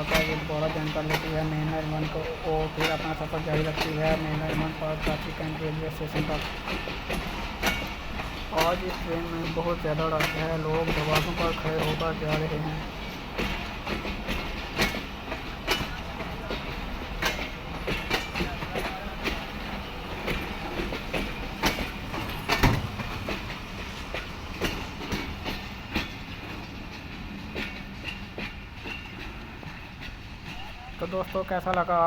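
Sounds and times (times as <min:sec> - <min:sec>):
train coaches rumbling past: 0:00.0 - 0:32.0
wheels clacking over rail joints: 0:00.0 - 0:32.0.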